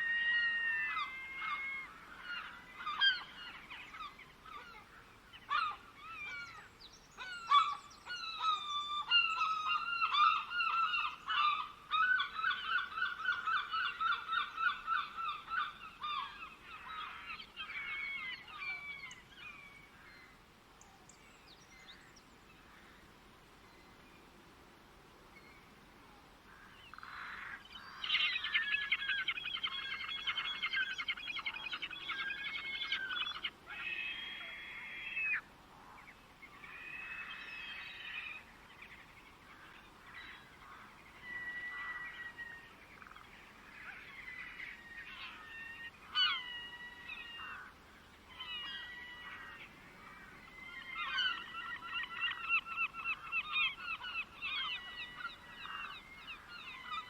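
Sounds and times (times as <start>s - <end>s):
songbirds trilling: 0.0s - 24.4s, 26.4s - 57.0s.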